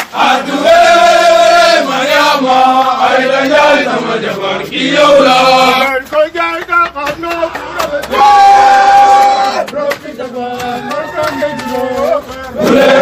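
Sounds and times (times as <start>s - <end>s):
men's voices chanting together: 0.0s - 13.0s.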